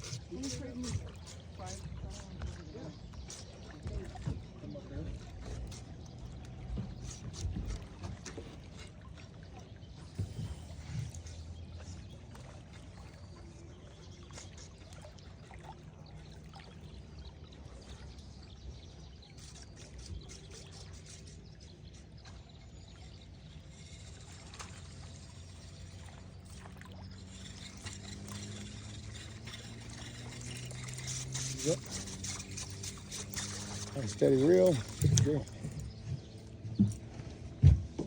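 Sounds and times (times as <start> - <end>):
water lapping against boat hull: 0.0 - 38.0.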